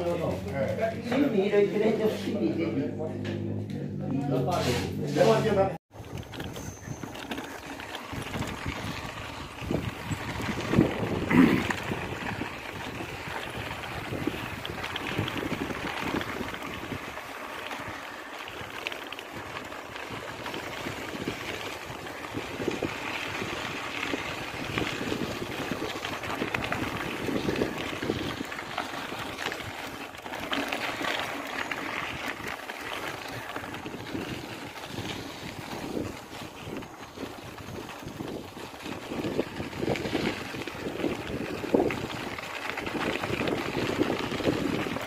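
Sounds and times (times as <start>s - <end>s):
bike rattling over rough ground: 0.0s - 2.5s, 4.2s - 45.0s
tyres rolling on dirt trail: 0.0s - 3.6s, 4.2s - 45.0s
wind buffeting microphone: 5.9s - 45.0s.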